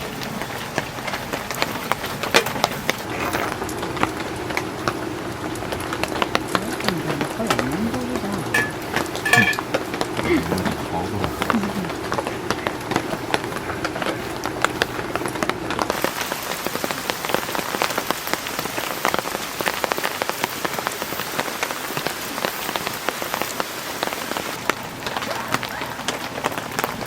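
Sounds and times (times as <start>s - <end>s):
heavy rain: 0.0s - 27.0s
raindrops pattering on surface: 0.0s - 27.0s.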